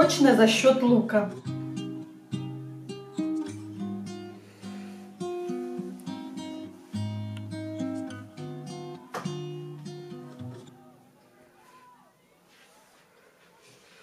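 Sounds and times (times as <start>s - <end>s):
acoustic guitar music: 0.0s - 11.5s.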